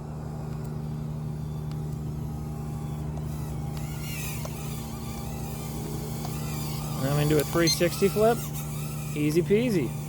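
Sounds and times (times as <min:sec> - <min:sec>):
toy quadcopter propellers buzzing: 0:00.0 - 0:10.0.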